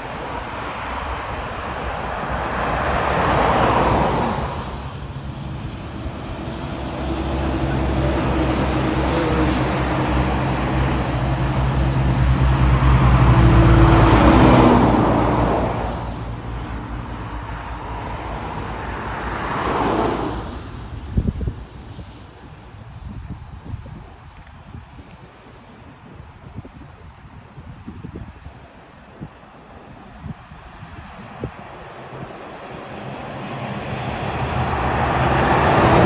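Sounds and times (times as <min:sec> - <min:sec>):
heavy truck engine hum: 0:00.0 - 0:23.2, 0:29.5 - 0:36.0
trucks passing on a road: 0:00.0 - 0:36.0.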